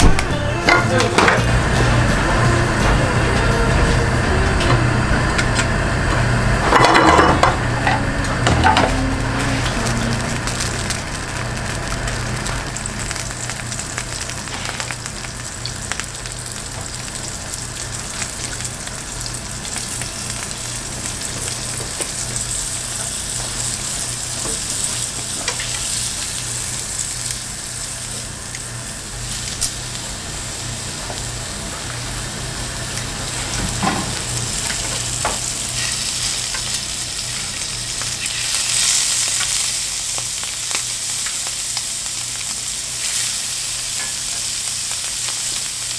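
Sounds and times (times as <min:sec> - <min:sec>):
food sizzling in hot oil: 0:05.3 - 0:45.9.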